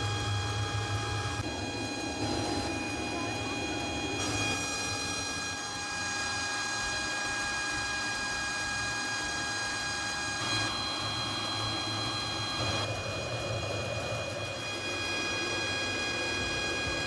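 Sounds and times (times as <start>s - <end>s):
furnace burner roaring: 0.0s - 17.0s
high-pitched whine: 0.0s - 17.0s.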